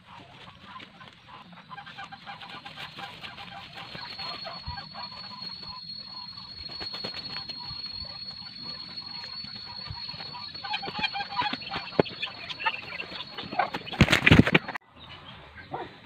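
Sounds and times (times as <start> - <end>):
poultry calling: 0.0 - 14.7
steady high-pitched whine: 0.0 - 14.8.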